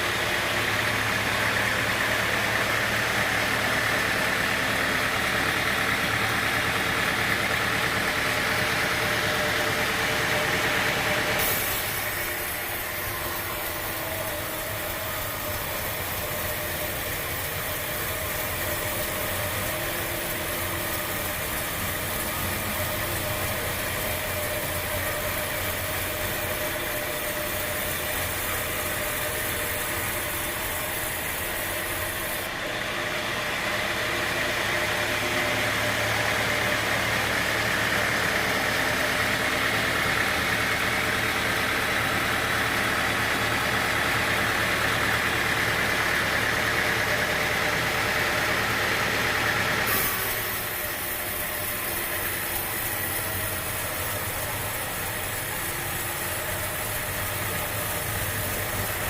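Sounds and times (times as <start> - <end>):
sawmill machinery humming: 0.0 - 59.0
high hissing whine: 1.3 - 32.8, 40.9 - 59.0.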